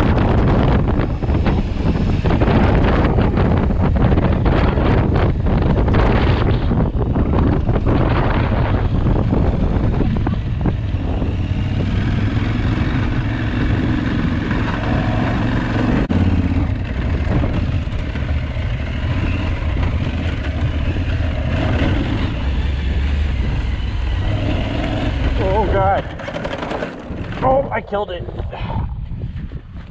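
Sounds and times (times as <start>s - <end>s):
motorcycle engine running: 0.0s - 27.7s.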